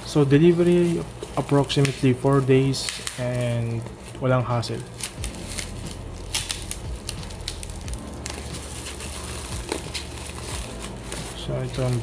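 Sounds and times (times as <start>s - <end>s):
packaging crackling: 0.0s - 12.0s.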